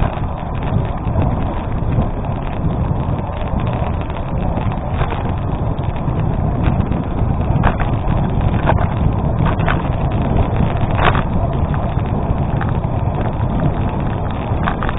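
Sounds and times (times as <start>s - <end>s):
bike tyres crunching on gravel: 0.0s - 14.9s
wind buffeting microphone: 0.0s - 14.9s.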